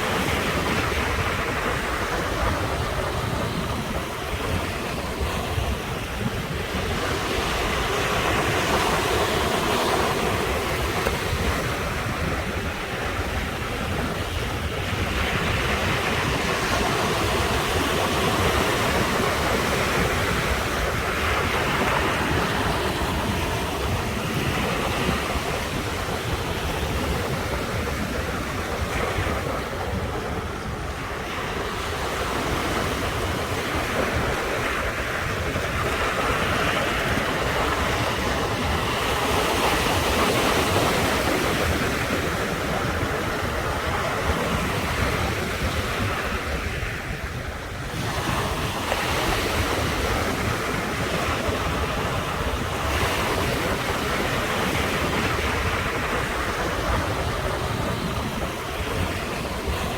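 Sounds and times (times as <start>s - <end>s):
ocean surf breaking: 0.0s - 59.9s.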